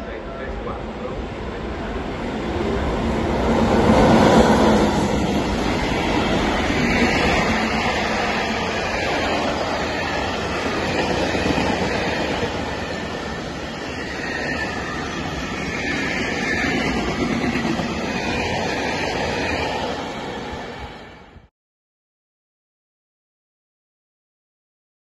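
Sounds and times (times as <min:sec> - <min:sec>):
freight train rolling past: 0:00.0 - 0:21.5.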